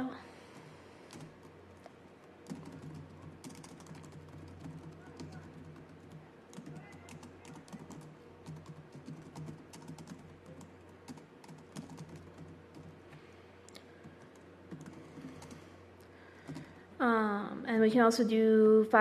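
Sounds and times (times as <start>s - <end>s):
steady low hum: 0.0s - 19.0s
laptop keyboard typing: 0.5s - 13.2s, 14.0s - 16.8s.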